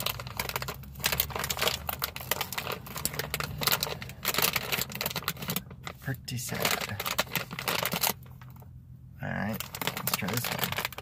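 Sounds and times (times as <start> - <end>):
plastic snack bag crinkling: 0.0 - 8.6, 9.4 - 11.0.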